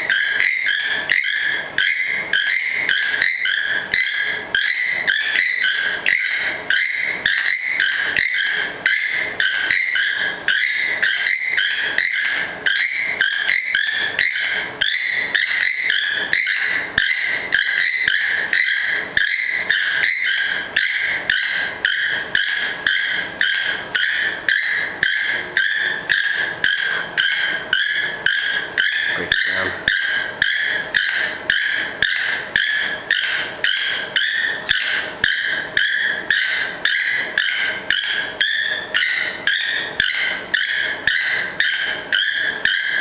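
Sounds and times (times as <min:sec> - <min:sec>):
flock of birds cawing: 0:00.0 - 0:43.0.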